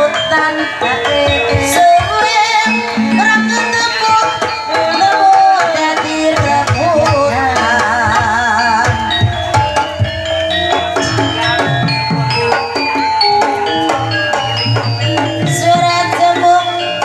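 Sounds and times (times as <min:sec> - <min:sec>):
wavering melody with vibrato: 0:00.0 - 0:17.0.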